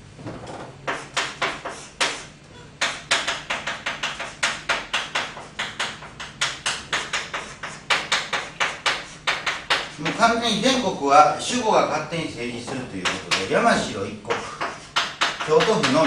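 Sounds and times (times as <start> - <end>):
chalk tapping on blackboard: 0.8 - 10.6, 12.7 - 16.0.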